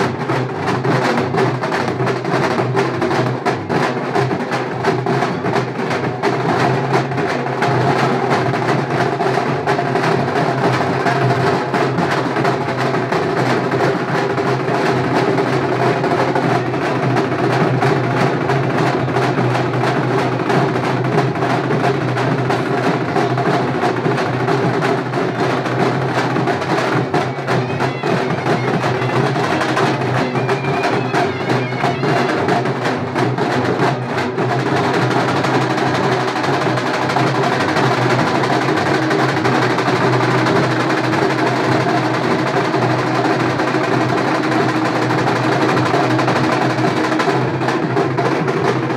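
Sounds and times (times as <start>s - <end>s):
drum band playing: 0.0s - 48.9s.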